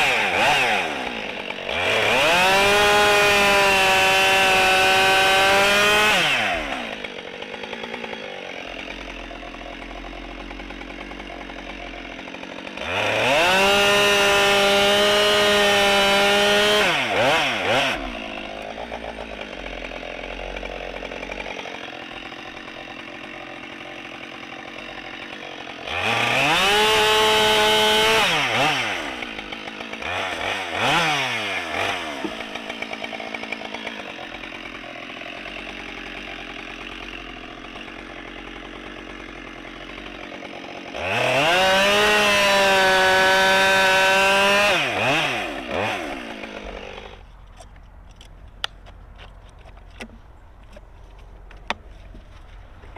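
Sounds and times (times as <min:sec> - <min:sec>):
chainsaw revving and idling: 0:00.0 - 0:47.7.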